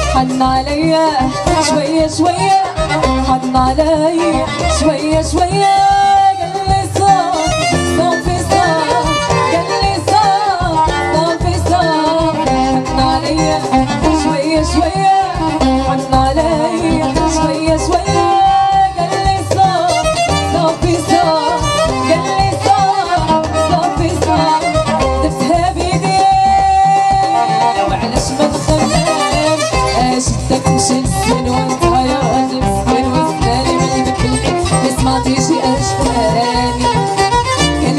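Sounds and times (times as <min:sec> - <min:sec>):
electric guitar: 0:00.0 - 0:37.9
steady driving beat: 0:00.1 - 0:37.9.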